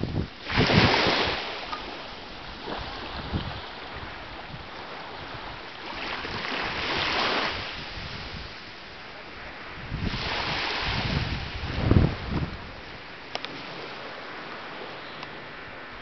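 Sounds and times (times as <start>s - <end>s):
waves washing on sandy beach: 0.0s - 16.0s
wind on the microphone: 0.0s - 16.0s.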